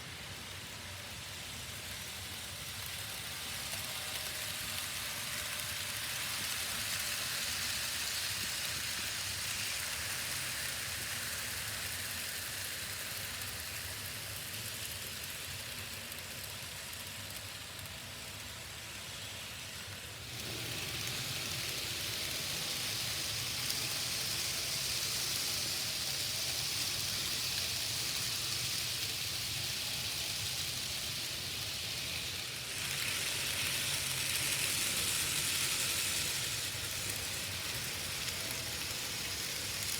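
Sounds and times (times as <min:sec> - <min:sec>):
model trains whirring on rails: 0:00.0 - 0:39.9.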